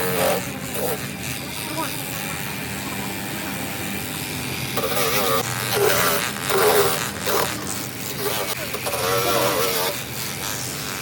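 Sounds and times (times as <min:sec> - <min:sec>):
electric hum: 0:00.0 - 0:11.0.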